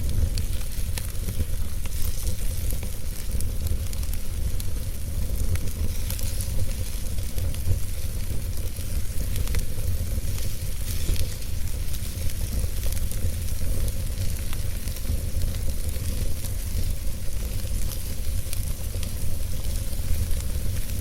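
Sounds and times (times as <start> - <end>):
fire crackles and pops: 0.0 - 21.0
wood fire rumbling and hissing: 0.0 - 21.0.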